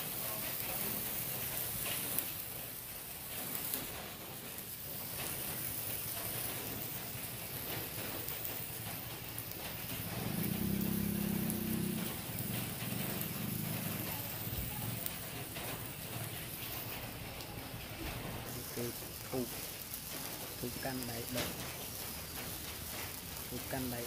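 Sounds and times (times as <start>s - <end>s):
sparkler fizzing crackle: 0.0s - 24.0s.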